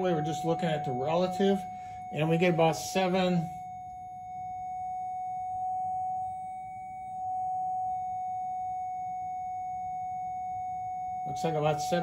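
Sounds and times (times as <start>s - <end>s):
sine tone: 0.0s - 12.0s.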